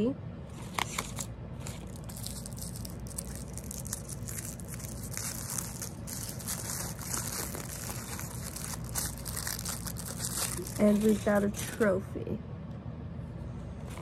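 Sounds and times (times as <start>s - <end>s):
wrapper crinkling: 0.6s - 11.9s.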